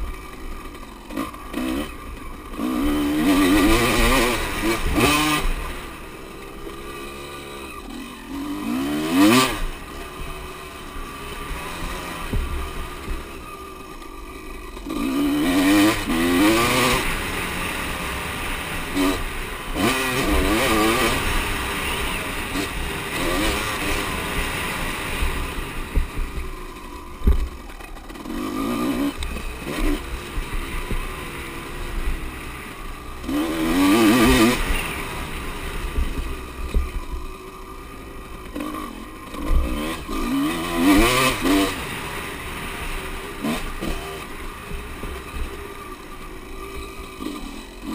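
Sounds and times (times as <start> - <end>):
motocross bikes revving past: 0.0 - 47.9.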